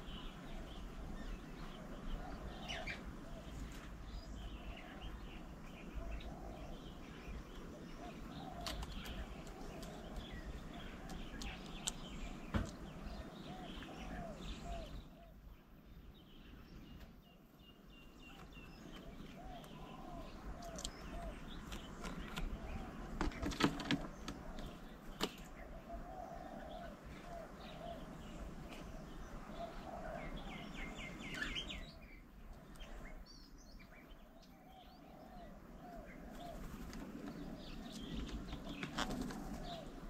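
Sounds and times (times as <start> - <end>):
birds calling: 0.0 - 40.0.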